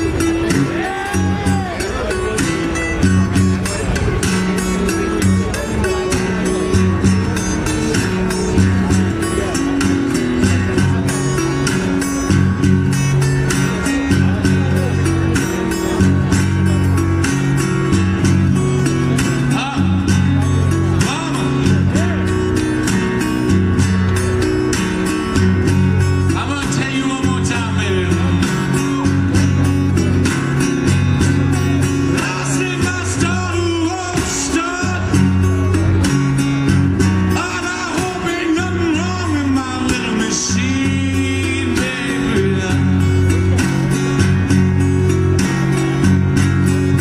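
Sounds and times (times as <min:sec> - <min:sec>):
bass line: 0:00.0 - 0:47.0
blues guitar lead: 0:00.0 - 0:47.0.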